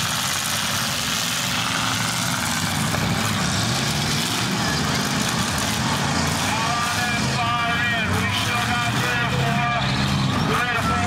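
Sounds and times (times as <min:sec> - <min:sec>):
car engines rumbling: 0:00.0 - 0:11.0.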